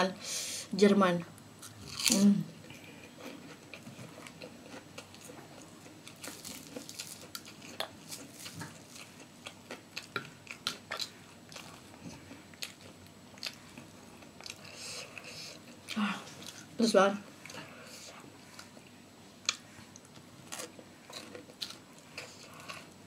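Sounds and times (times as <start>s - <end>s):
person chewing crunchy food: 1.6s - 23.0s.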